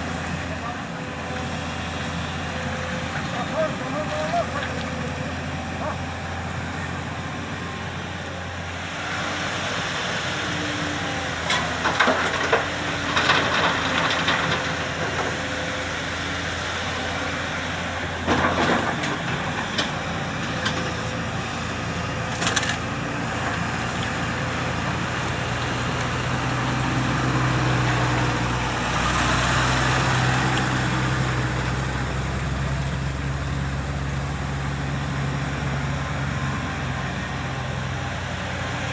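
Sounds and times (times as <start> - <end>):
diesel excavator engine running: 0.0 - 38.9.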